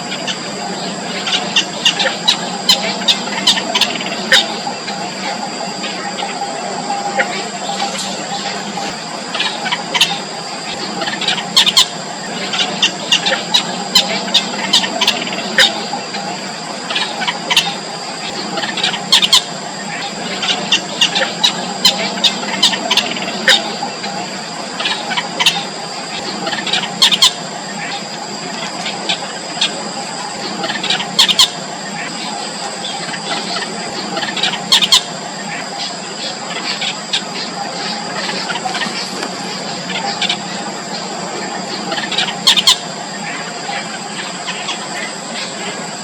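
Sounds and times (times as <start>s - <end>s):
high whine: 0.0s - 46.0s
low background hum: 0.0s - 46.0s
nestlings begging peeps: 0.0s - 46.0s.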